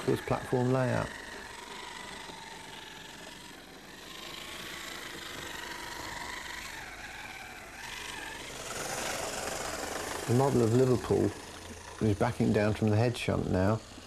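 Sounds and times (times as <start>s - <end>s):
model train motor whirring: 0.0s - 14.0s.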